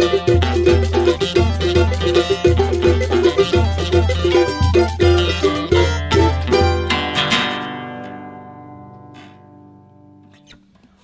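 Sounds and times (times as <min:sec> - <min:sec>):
guitar chord ringing out: 0:00.0 - 0:10.2.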